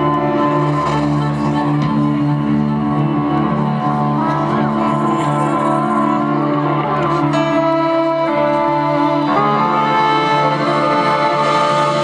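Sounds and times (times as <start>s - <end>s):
live band playing instrumental: 0.0s - 12.0s.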